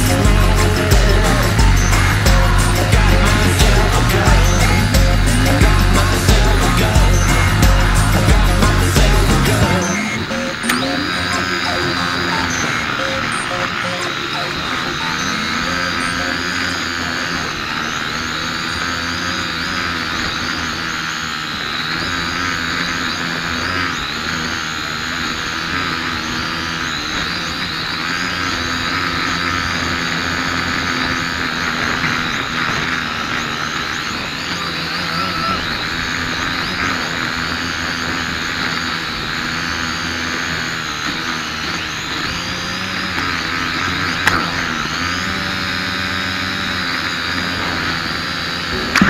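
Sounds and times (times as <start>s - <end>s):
drone propellers whining: 0.0s - 49.0s.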